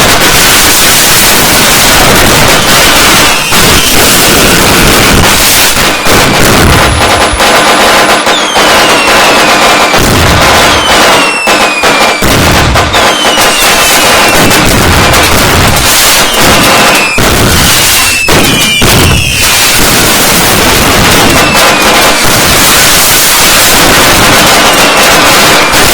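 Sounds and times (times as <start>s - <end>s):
fireworks crackling and bangs: 0.0s - 25.9s
whistling fireworks: 0.0s - 25.9s.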